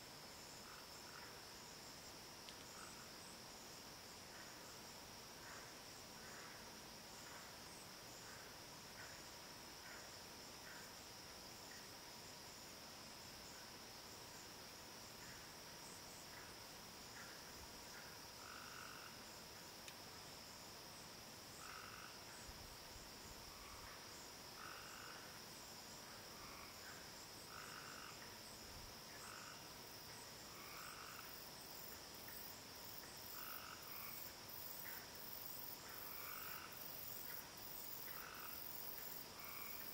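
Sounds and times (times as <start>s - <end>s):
crickets trilling: 0.0s - 39.9s
short lower-pitched insect calls: 0.0s - 39.9s.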